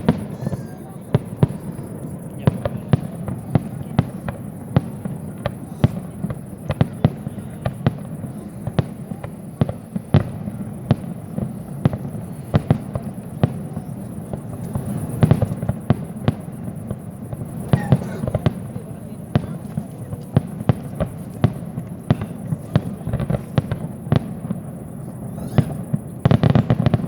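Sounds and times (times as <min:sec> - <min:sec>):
firework bangs and cracks: 0:00.0 - 0:27.0.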